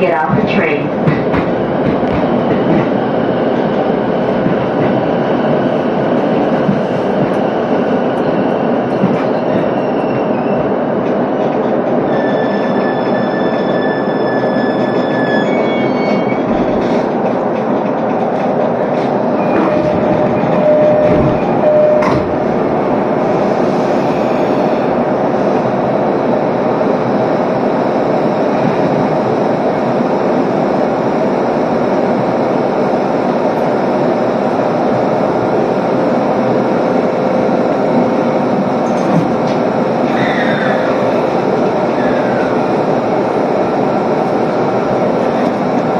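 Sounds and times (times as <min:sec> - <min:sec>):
train onboard equipment noise: 0:00.0 - 0:45.9.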